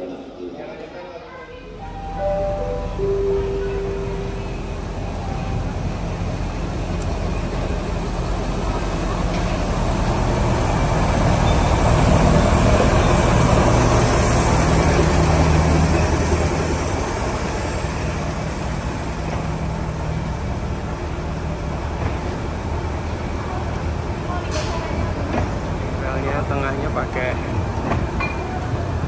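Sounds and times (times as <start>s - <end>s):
heavy diesel engine humming: 1.6s - 29.0s.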